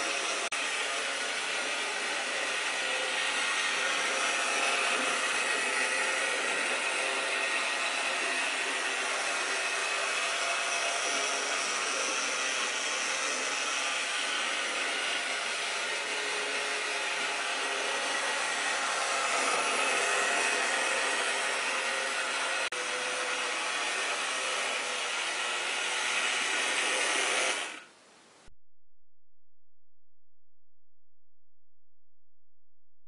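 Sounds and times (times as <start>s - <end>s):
model train motor whirring: 0.0s - 27.9s.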